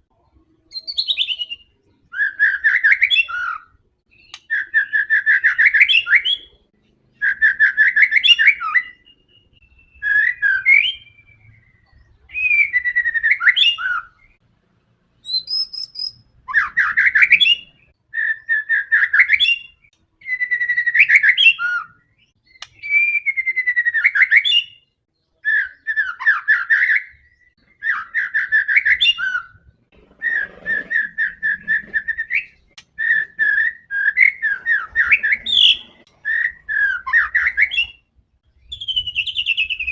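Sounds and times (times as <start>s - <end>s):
bird singing trills and whistles: 0.5s - 14.4s, 15.2s - 39.9s.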